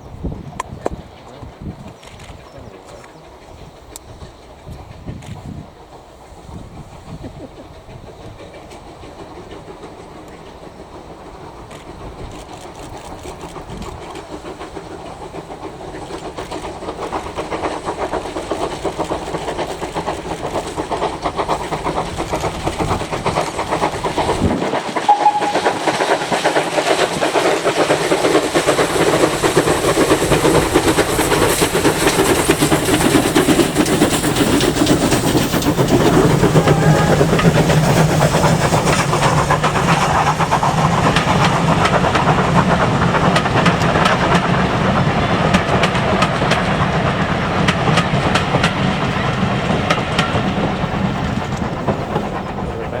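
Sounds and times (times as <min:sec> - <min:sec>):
steam locomotive running: 0:00.0 - 0:53.0
steam hiss: 0:01.5 - 0:53.0.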